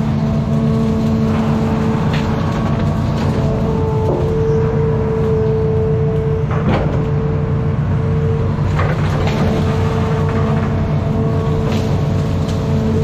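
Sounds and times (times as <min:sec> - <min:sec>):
excavator diesel engine working: 0:00.0 - 0:13.0.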